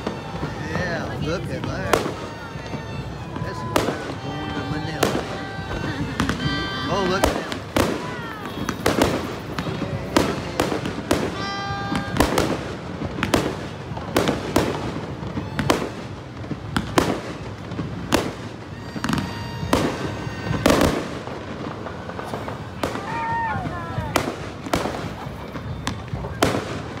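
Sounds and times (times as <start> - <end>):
fireworks bursting bangs: 0.0 - 27.0.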